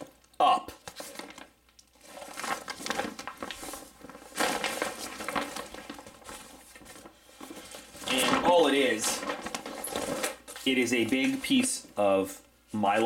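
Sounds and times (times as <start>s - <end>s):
plastic sheet rustling and crinkling: 0.8s - 12.0s.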